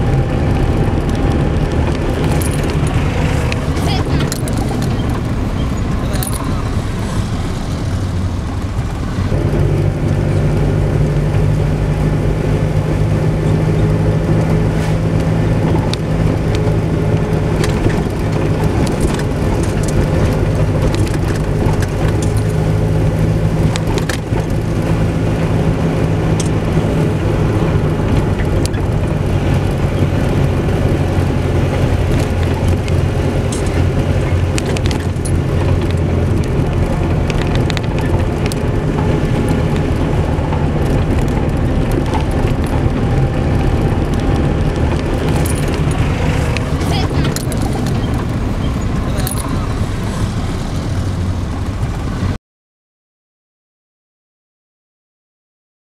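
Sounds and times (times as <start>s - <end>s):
road and wind noise: 0.0s - 52.4s
vehicle engine drone: 0.0s - 52.4s.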